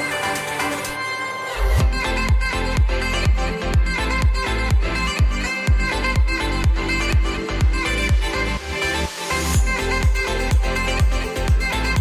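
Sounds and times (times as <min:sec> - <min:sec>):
upbeat dance music: 0:00.0 - 0:12.0
steady kick drum: 0:01.8 - 0:12.0.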